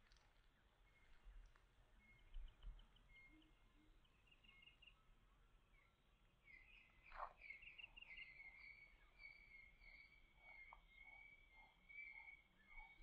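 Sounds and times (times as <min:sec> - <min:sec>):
faint birds chirping: 0:00.4 - 0:13.0.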